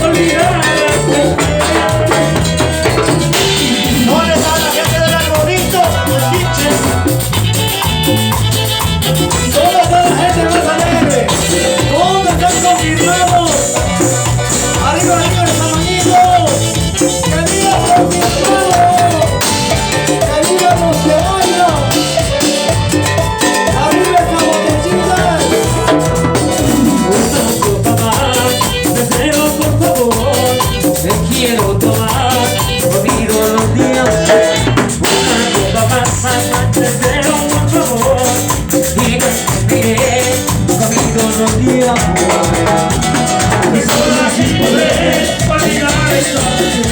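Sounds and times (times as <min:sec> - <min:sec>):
instrumental band dance music: 0:00.0 - 0:46.9.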